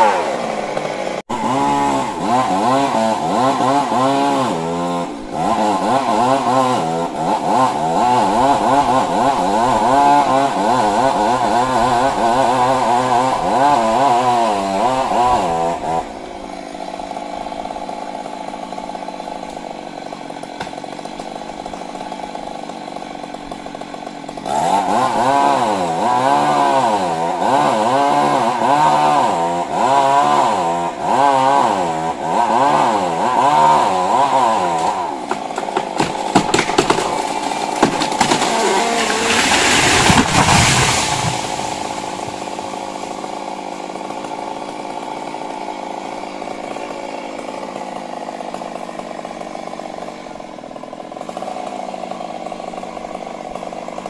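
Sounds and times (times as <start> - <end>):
chainsaw cutting at high revs: 0.0 - 54.0
chainsaw idling: 0.0 - 54.0.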